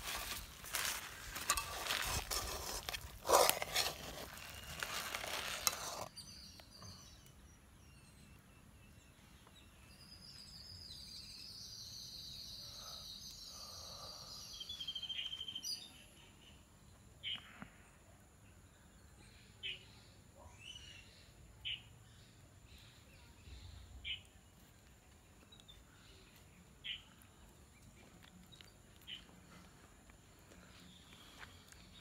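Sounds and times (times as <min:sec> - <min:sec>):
quiet outdoor ambience: 0:00.0 - 0:32.0.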